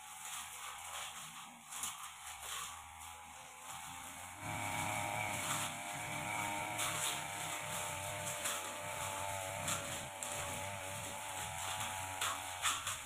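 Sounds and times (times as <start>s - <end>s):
blade swishing through undergrowth: 0.0s - 13.0s
brush cutter engine running: 0.0s - 13.0s.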